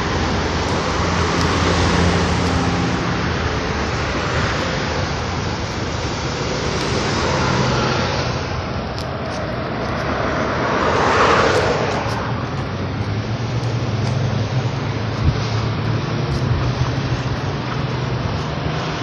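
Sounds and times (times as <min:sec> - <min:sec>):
cars passing: 0:00.0 - 0:19.0
low engine hum: 0:00.0 - 0:19.0.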